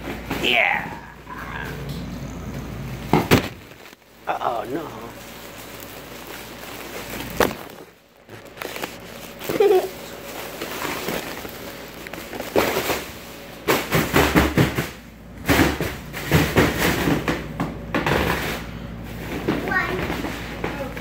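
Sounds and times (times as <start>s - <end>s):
foil balloons crinkling: 0.0s - 17.4s.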